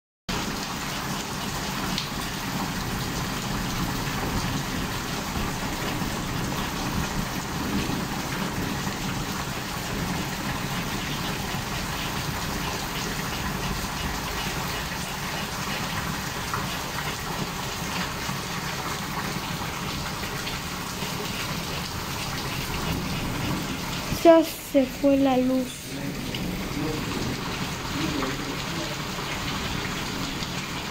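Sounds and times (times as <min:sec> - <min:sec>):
heavy rain: 0:00.3 - 0:30.9.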